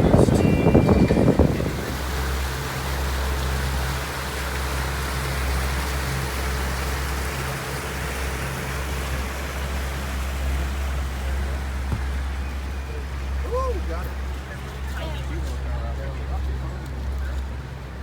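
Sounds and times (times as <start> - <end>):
wind and water rushing: 0.0 - 15.2
boat motor droning: 0.0 - 18.0.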